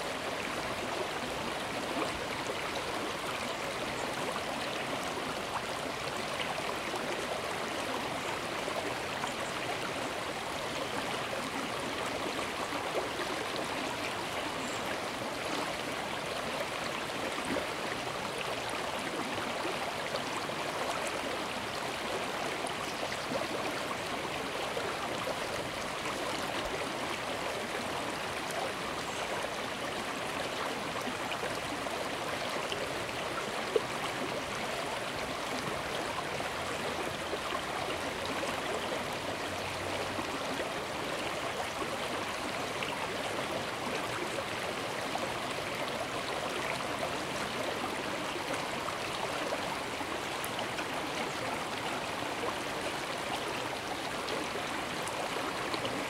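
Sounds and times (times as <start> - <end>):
stream babbling over stone: 0.0 - 56.0.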